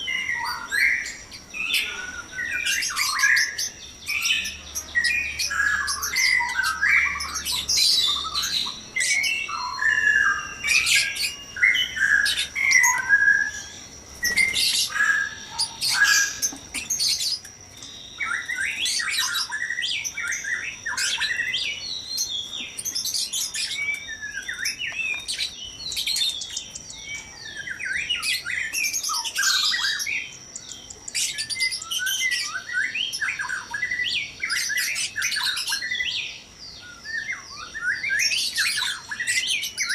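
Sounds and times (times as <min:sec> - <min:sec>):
birds calling and singing: 0:00.0 - 0:39.9.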